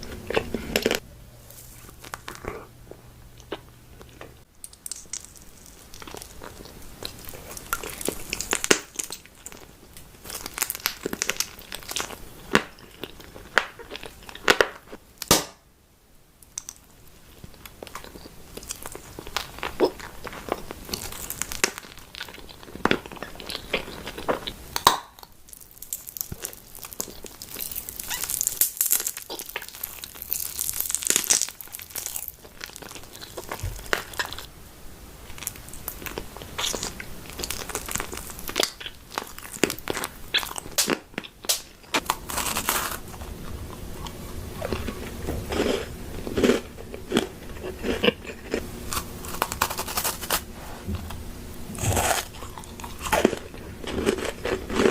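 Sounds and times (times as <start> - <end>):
crunchy food chewing: 0.0 - 15.0, 16.6 - 34.5, 35.2 - 54.9.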